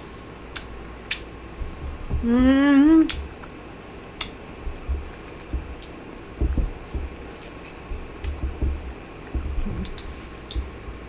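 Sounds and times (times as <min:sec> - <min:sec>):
chewing with wet smacks: 0:00.0 - 0:11.0
soft low thuds: 0:00.8 - 0:03.6, 0:04.5 - 0:11.0.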